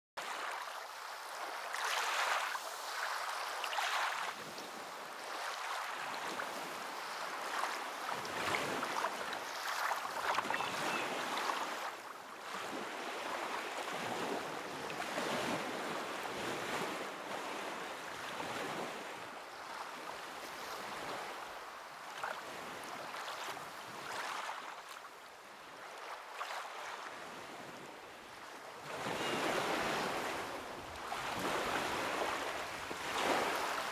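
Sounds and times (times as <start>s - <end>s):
sea waves breaking on shore: 0.2s - 33.9s.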